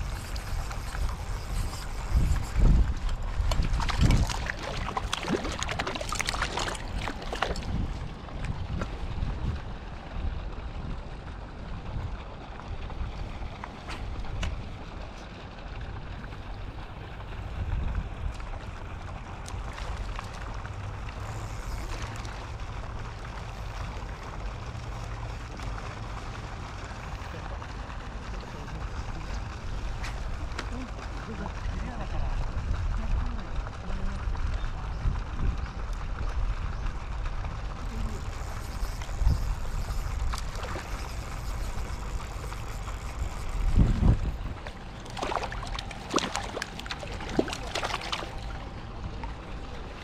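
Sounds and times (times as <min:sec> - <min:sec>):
wind rumbling on microphone: 0:00.0 - 0:25.3, 0:28.2 - 0:50.0.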